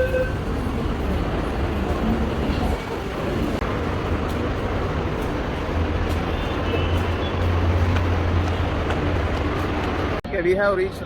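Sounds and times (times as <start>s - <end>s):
metro train rumbling: 0.0s - 10.2s.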